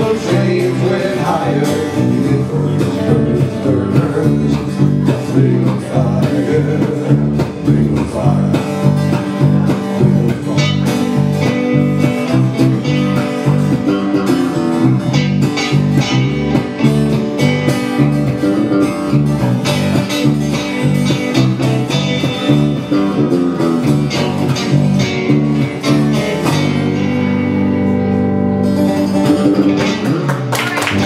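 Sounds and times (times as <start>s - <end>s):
acoustic guitar strumming: 0.0s - 31.0s
electric bass line: 0.0s - 31.0s.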